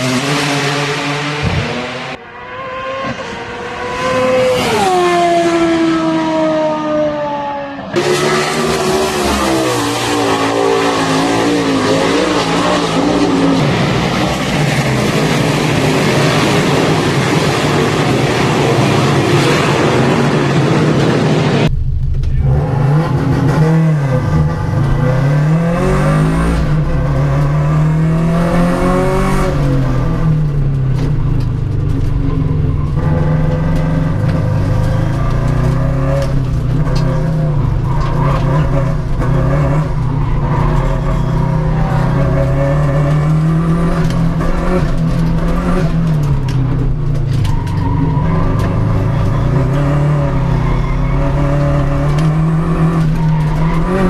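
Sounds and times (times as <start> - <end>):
race car engines at high revs: 0.0 - 21.7, 22.4 - 54.0.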